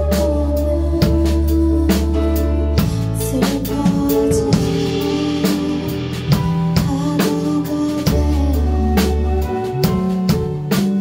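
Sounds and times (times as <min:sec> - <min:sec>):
live band playing: 0:00.0 - 0:11.0
woman singing: 0:00.0 - 0:11.0.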